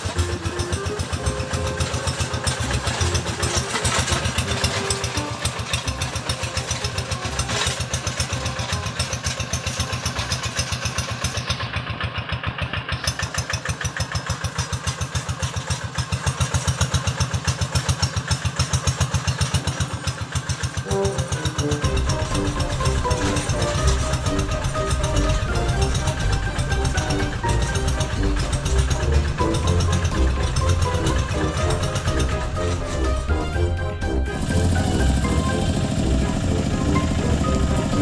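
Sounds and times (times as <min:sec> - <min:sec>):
diesel tractor engine chugging: 0:00.0 - 0:38.0.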